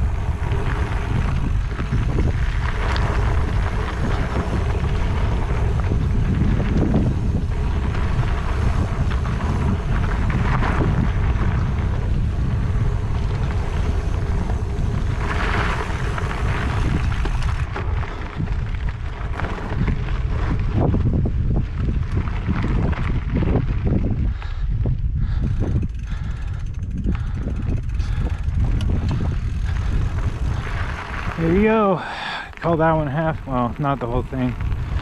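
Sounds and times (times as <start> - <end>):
bike tyres rumbling over ground: 0.0 - 35.0
wind buffeting microphone: 0.0 - 35.0.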